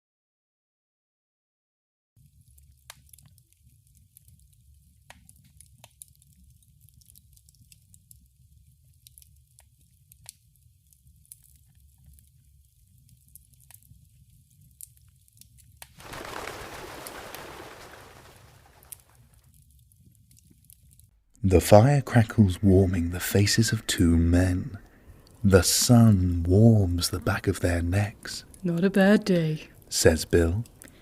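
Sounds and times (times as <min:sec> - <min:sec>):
campfire crackling: 0:02.2 - 0:31.0.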